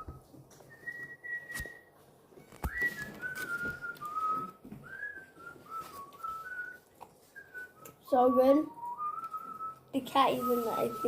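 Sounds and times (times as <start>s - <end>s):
person whistling a tune: 0.0s - 11.0s.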